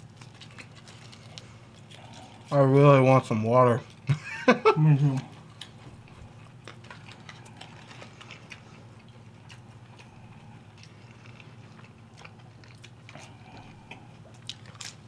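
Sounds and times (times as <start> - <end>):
people chewing food: 0.0 - 15.0
steady low hum: 0.0 - 15.0.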